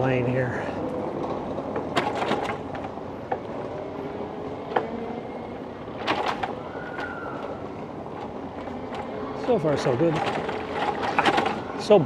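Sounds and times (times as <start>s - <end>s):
bicycle rattling and knocking: 0.0s - 3.7s, 5.6s - 12.0s
bicycle tyres rumbling on cobblestones: 0.0s - 12.0s.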